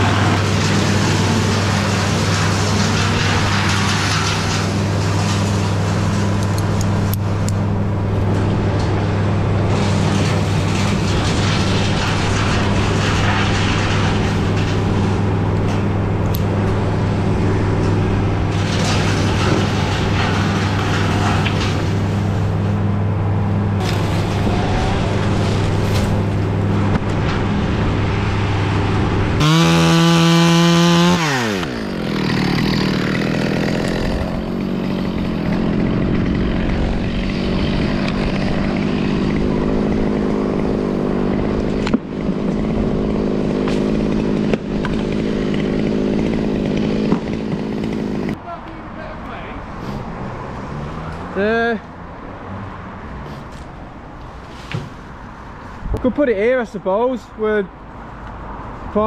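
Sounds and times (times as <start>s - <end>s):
chainsaw revving: 0.0s - 22.8s, 23.8s - 48.4s
steady engine drone: 0.0s - 59.0s.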